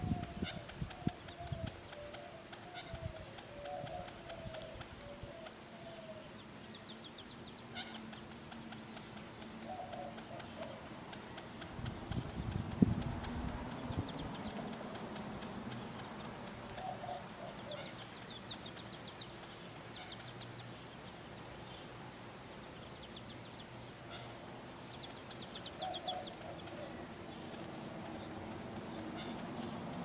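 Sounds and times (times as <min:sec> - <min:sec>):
quail chicks peeping: 0:00.0 - 0:21.2, 0:22.7 - 0:30.0.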